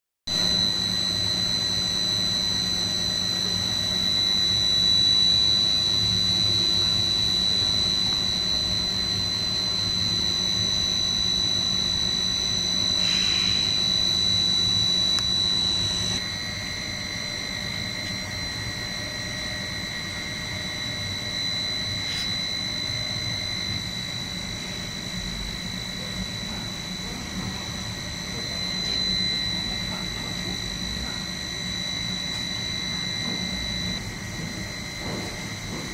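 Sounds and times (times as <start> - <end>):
high-pitched machine whine: 0.3 - 35.9
lower whine: 0.3 - 35.9.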